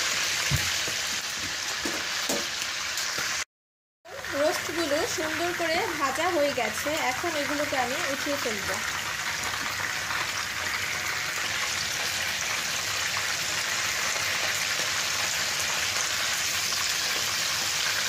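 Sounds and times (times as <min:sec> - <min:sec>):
chicken sizzling in hot oil: 0:00.0 - 0:03.5, 0:04.1 - 0:18.0.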